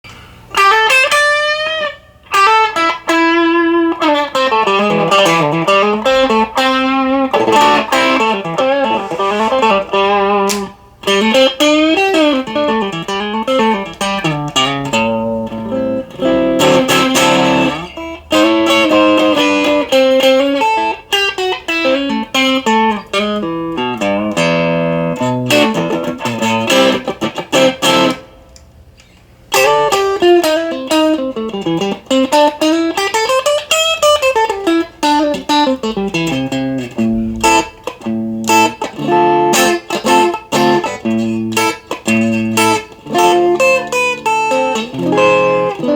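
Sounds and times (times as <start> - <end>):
electric lead guitar with bends: 0.1 - 28.4, 29.5 - 45.9.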